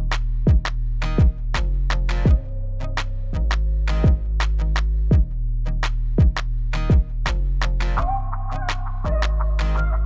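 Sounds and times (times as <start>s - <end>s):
electronic beat music: 0.0s - 5.4s, 6.2s - 10.0s.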